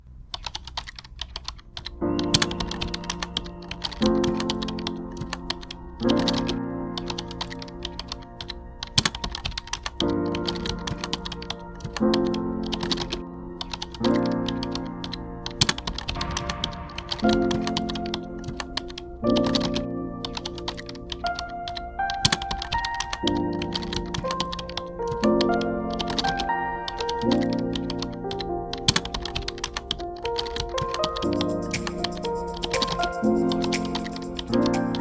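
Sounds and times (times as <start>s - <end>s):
computer keyboard typing clicks: 0.3s - 35.0s.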